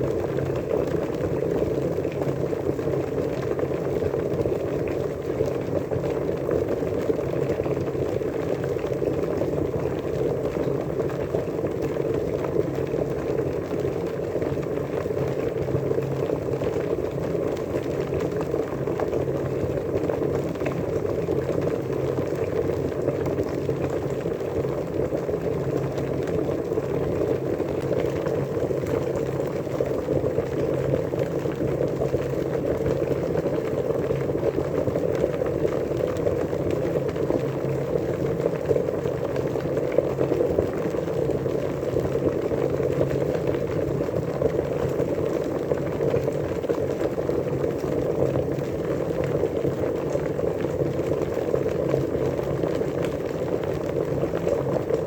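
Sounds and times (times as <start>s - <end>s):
water boiling and bubbling: 0.0s - 55.0s.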